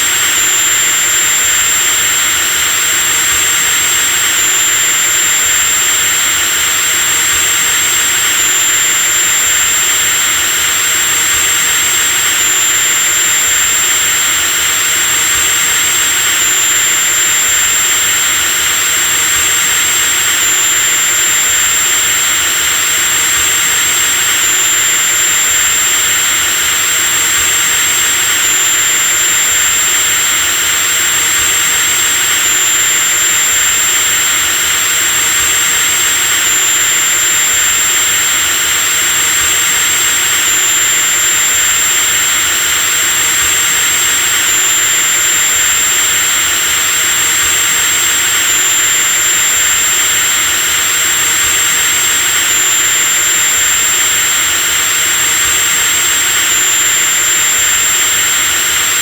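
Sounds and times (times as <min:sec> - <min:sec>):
electric drill whining: 0:00.0 - 0:59.0.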